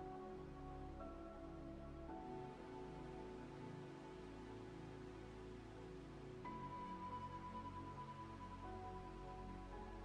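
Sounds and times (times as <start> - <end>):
soft sustained chords: 0.0 - 10.0.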